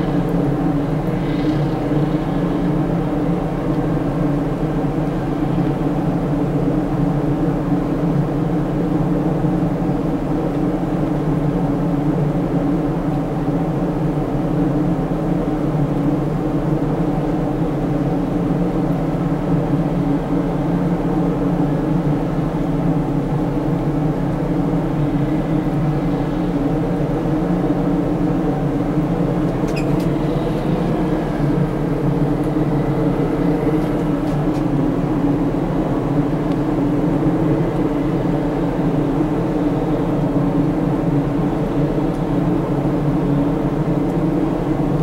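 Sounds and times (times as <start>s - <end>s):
ship engines droning: 0.0s - 45.0s.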